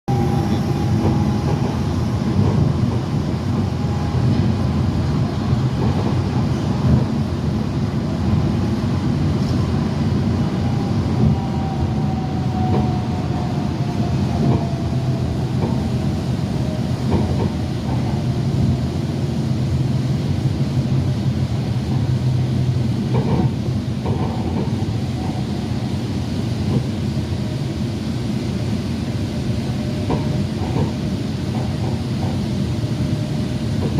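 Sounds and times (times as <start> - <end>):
monorail rumble: 0.1 - 33.9.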